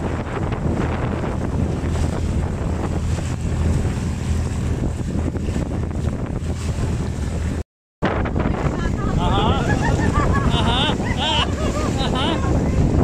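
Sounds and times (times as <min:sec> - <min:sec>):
boat engine drone: 0:00.0 - 0:13.0
water splashing along hull: 0:00.0 - 0:13.0
wind buffeting microphone: 0:00.0 - 0:13.0.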